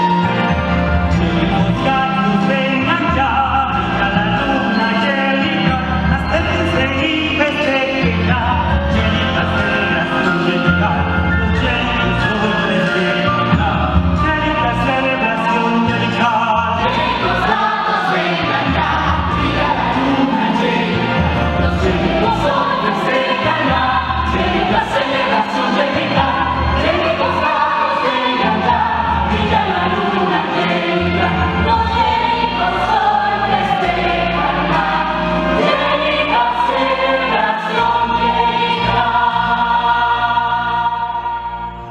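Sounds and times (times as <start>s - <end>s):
choir singing with instruments: 0.0s - 41.9s.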